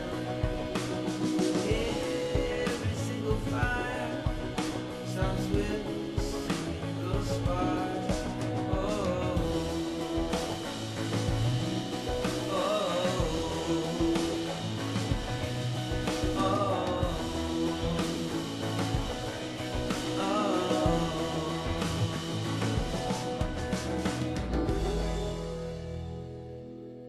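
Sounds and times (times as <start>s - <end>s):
rock song with singing: 0.0s - 26.2s.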